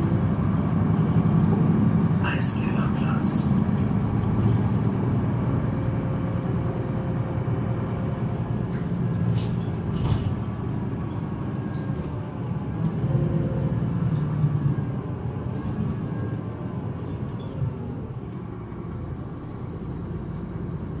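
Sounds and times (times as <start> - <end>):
bus diesel engine humming: 0.0 - 21.0.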